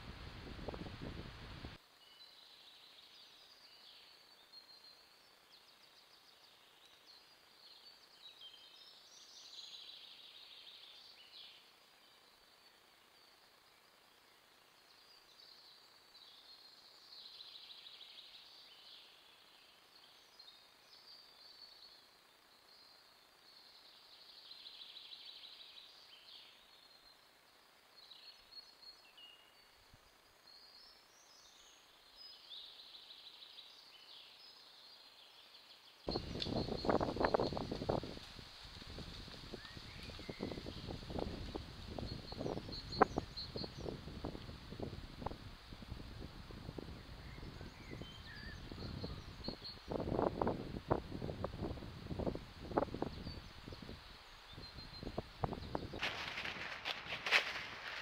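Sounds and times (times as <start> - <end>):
low steady hiss: 0.0 - 58.0
songbirds singing: 0.7 - 58.0.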